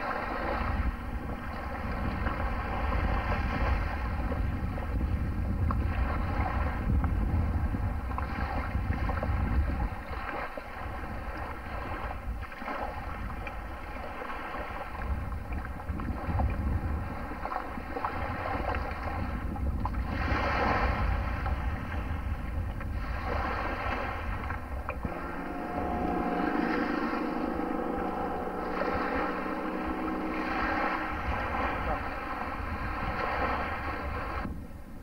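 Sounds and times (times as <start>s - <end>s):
distant boat engine drone: 0.0s - 19.1s, 22.9s - 35.0s
wind buffeting microphone: 0.0s - 35.0s.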